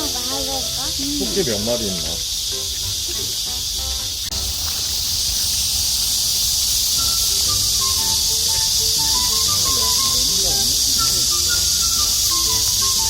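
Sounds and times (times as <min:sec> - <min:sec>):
light background music: 0:00.0 - 0:04.6, 0:07.0 - 0:13.0
cicadas buzzing: 0:00.0 - 0:13.0.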